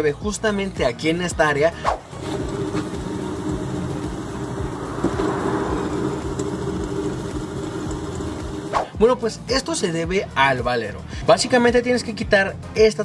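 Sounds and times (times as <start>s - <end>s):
wheel bearing rumbling: 0.0s - 12.0s.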